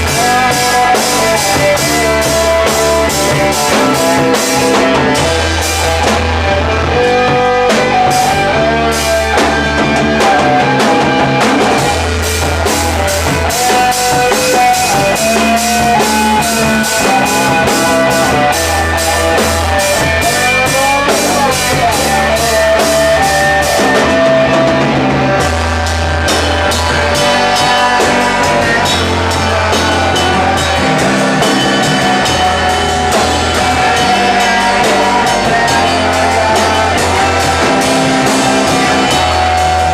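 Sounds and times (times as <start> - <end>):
bass line: 0.0 - 39.9
drum kit beat: 0.0 - 39.9
guitar: 0.0 - 39.9
melodic lead line: 0.0 - 39.9.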